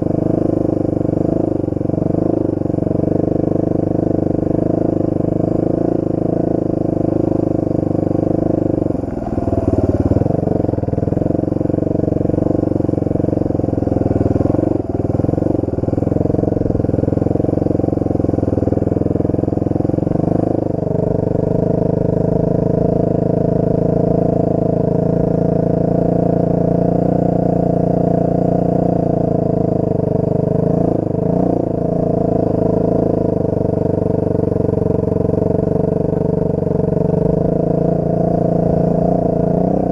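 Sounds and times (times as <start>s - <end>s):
off-road motorcycle engine running: 0.0s - 39.9s.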